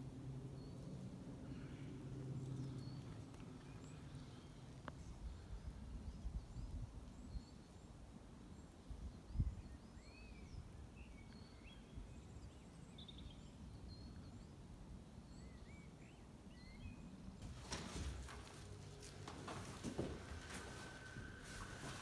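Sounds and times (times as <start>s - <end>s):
small birds chirping: 0.4s - 22.0s.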